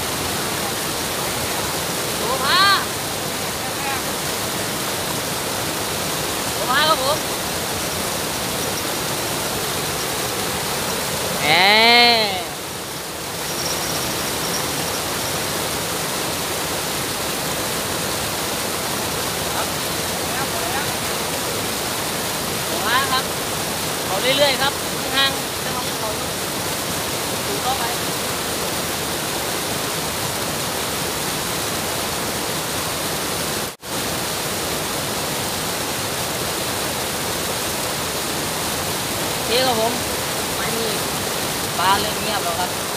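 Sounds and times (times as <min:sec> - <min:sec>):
flowing water rushing: 0:00.0 - 0:42.9.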